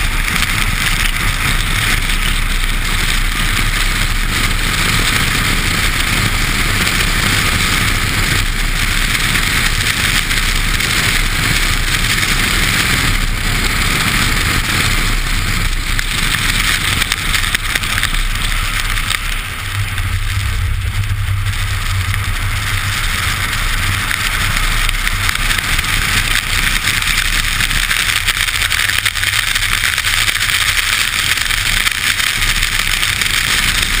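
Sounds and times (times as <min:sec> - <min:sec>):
wind rushing: 0:00.0 - 0:27.8
low rumble: 0:00.0 - 0:34.0.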